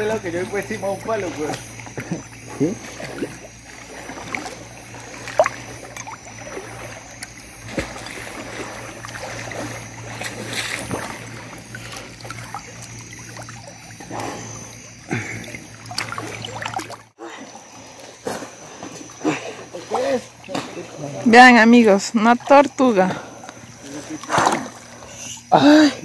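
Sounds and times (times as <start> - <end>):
river water sloshing: 0.0 - 26.0
small water splashes: 0.0 - 26.0.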